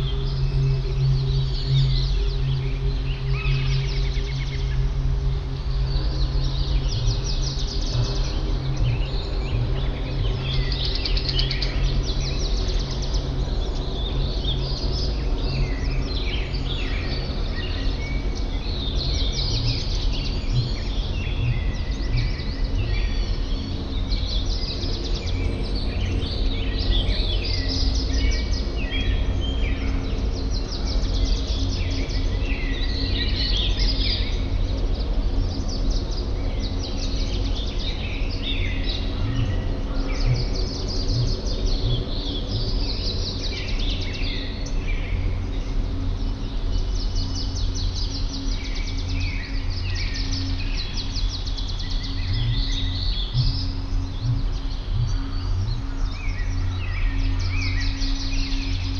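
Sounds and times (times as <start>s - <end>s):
low background hum: 0.0s - 58.9s
songbirds chirping and trilling: 0.0s - 58.9s.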